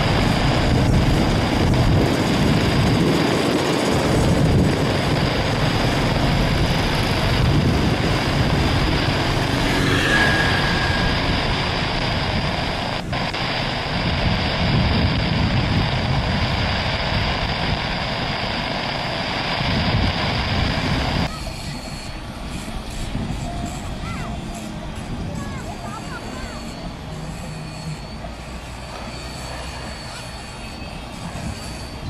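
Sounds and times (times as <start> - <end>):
jet engines at takeoff: 0.0 - 32.0.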